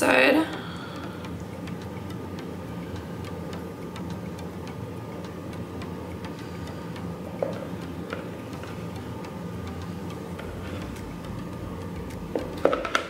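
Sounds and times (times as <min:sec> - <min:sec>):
light regular ticking: 0:00.0 - 0:13.0
low steady hum: 0:00.0 - 0:13.0.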